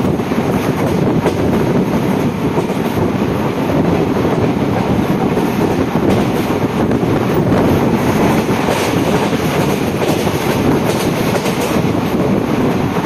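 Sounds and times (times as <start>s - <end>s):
train wheels rumbling on rails: 0.0s - 13.0s
wind rushing past: 0.0s - 13.0s.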